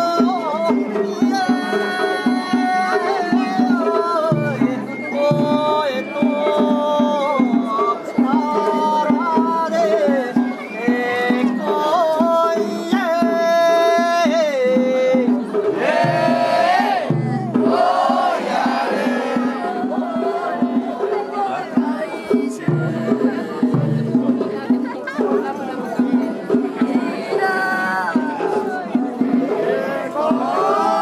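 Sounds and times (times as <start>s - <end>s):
steady drumbeat: 0.0s - 31.0s.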